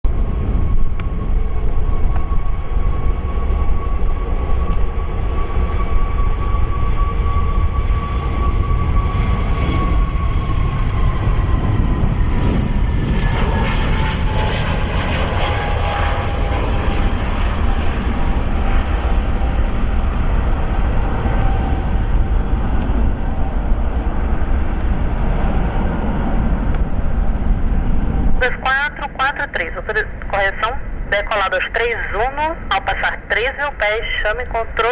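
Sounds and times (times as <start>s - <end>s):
jet engine whine dropping in pitch: 0.0s - 34.9s
jet engines at takeoff thrust: 0.0s - 34.9s.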